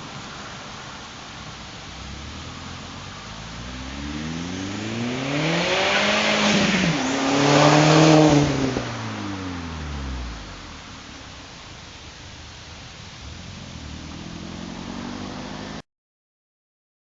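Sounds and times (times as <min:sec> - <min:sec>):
car engine accelerating hard: 0:00.0 - 0:15.8.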